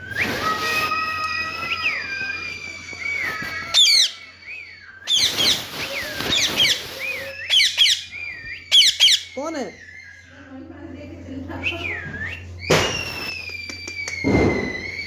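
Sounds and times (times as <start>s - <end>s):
parrot whistling: 0.0s - 10.4s, 11.6s - 15.0s
shrill parrot call: 0.2s - 10.4s, 11.9s - 15.0s.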